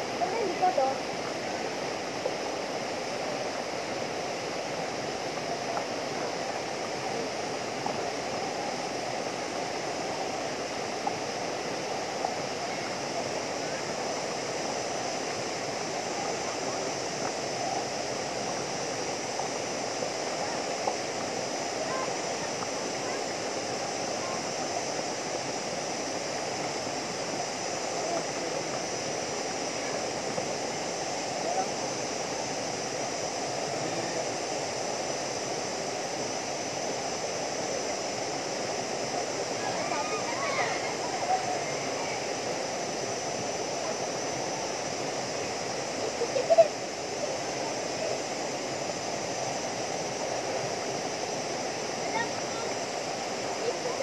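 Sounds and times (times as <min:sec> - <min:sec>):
faint voices: 0:00.0 - 0:54.0
waterfall rushing: 0:00.0 - 0:54.0.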